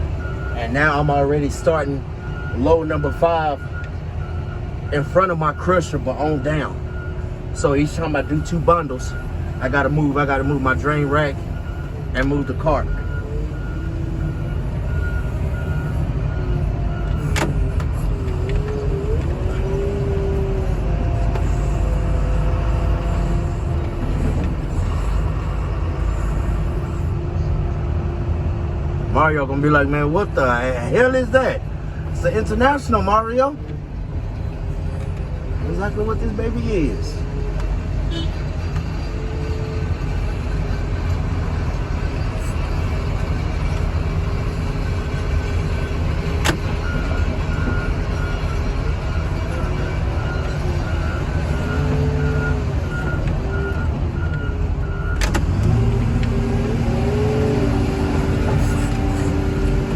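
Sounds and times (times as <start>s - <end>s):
heavy machinery engine rumble: 0.0s - 59.9s.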